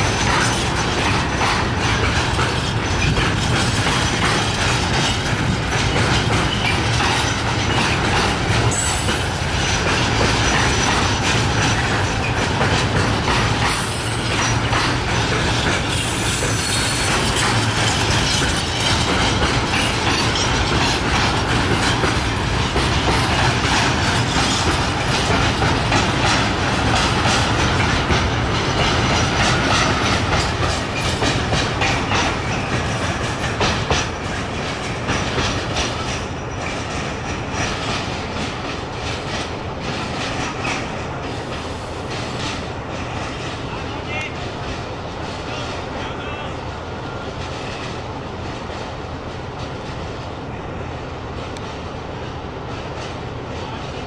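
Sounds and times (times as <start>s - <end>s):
wheels clacking over rail joints: 0.0s - 45.7s
freight train rumbling: 0.0s - 54.0s.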